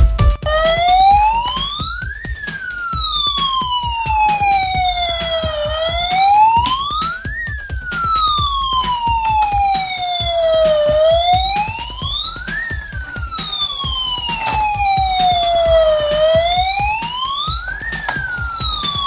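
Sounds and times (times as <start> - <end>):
toy electronic siren: 0.0 - 19.0
small clicks patter: 0.4 - 19.0.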